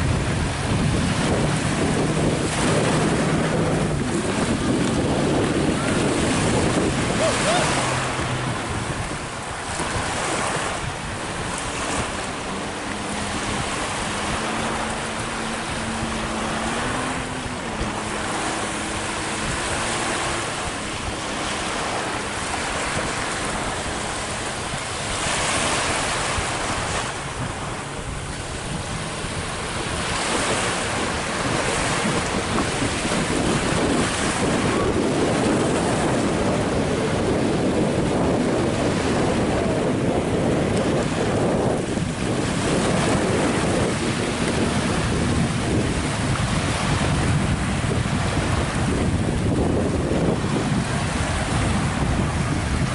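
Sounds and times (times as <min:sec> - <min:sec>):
waves and rushing water: 0:00.0 - 0:52.9
wind buffeting microphone: 0:00.0 - 0:52.9.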